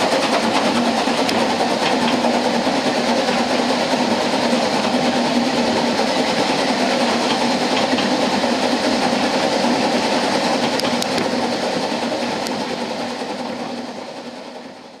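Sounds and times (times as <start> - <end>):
steam train running: 0.0 - 15.0.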